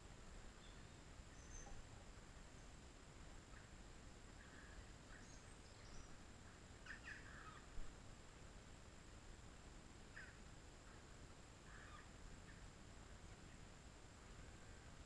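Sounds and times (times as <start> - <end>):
quiet background hiss: 0.0 - 15.0
faint bird chirps: 0.5 - 7.9, 10.1 - 15.0.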